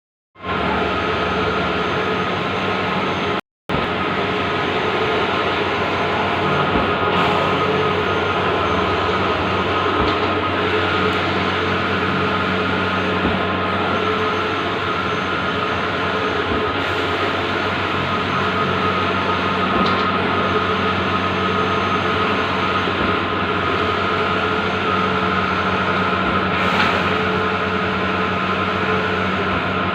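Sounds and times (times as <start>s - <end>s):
printer humming and whirring: 0.4s - 29.9s.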